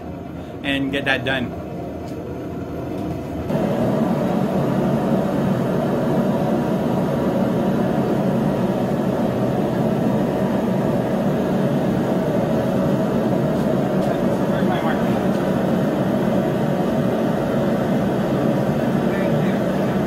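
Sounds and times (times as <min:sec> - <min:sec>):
forge rushing noise: 0:02.5 - 0:20.0.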